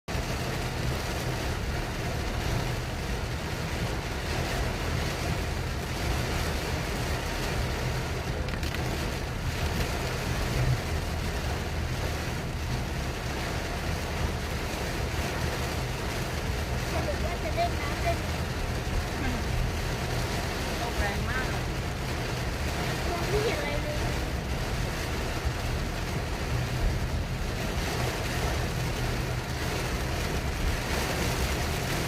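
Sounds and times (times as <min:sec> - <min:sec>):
heavy rain falling: 0:00.1 - 0:32.0.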